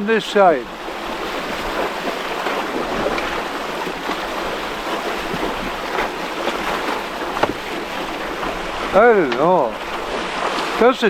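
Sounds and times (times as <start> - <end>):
small water splashes: 0.0 - 11.0
water rushing along hull: 0.0 - 11.0.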